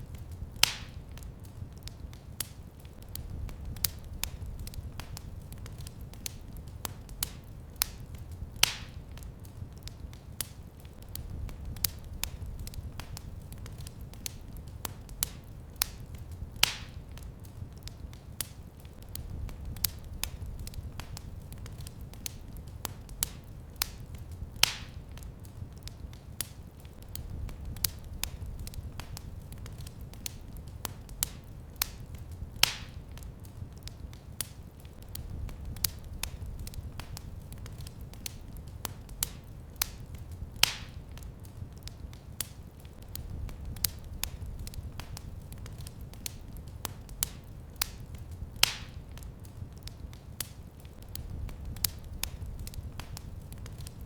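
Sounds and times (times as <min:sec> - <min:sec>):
fire popping: 0:00.0 - 0:54.0
wood fire crackling: 0:00.0 - 0:54.0.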